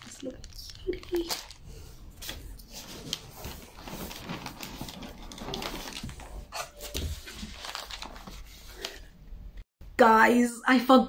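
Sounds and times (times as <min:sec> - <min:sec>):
paper packing rustling: 0:00.0 - 0:09.1.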